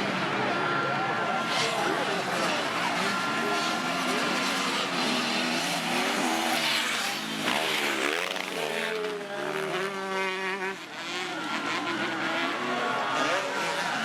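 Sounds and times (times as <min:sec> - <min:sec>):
motocross engines revving: 0:00.0 - 0:14.0.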